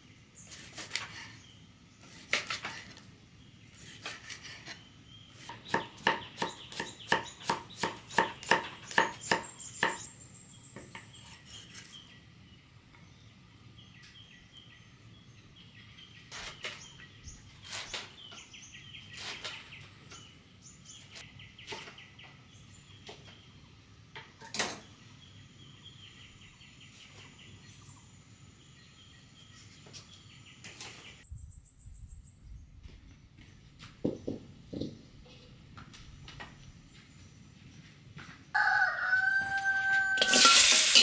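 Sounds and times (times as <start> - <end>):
birds chirping: 0.0 - 40.2.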